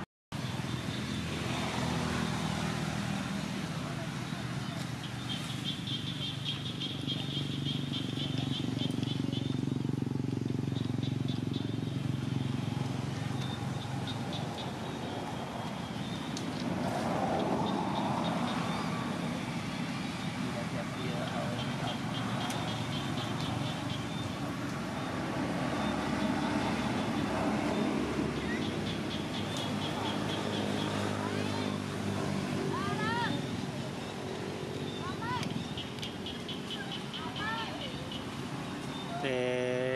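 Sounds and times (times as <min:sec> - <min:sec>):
distant motor traffic rumble: 0:00.0 - 0:39.9.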